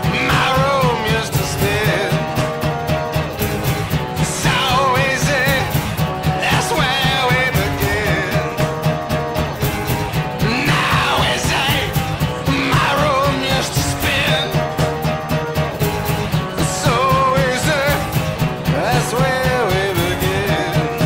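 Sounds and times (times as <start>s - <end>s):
rock song with guitar and vocals: 0.0s - 21.0s.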